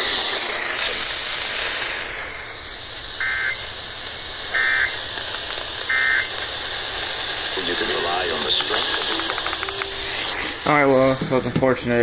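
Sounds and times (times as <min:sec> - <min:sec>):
warbling digital screech: 0:00.0 - 0:03.8, 0:04.4 - 0:06.4, 0:07.6 - 0:12.0
radio static hiss: 0:00.0 - 0:12.0.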